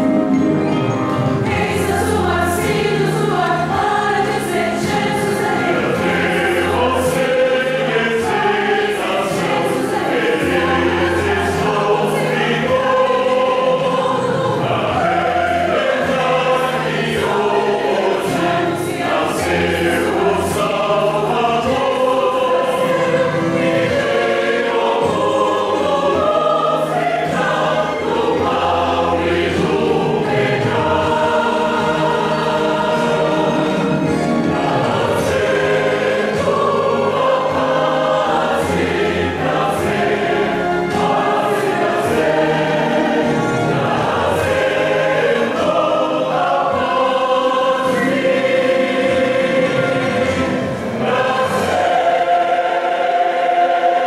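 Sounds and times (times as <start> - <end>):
instrumental accompaniment: 0.0 - 54.0
mixed choir singing a hymn: 0.0 - 54.0.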